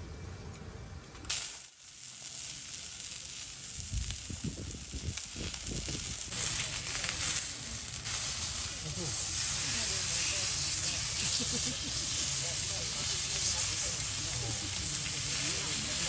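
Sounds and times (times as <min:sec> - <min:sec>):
food sizzling in hot oil: 0:01.3 - 0:16.0.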